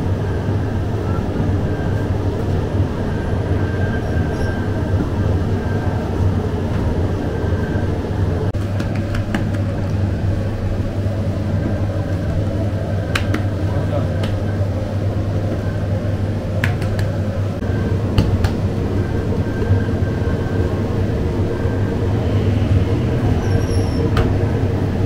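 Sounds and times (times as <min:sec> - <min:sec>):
bakery machinery droning: 0:00.0 - 0:25.0.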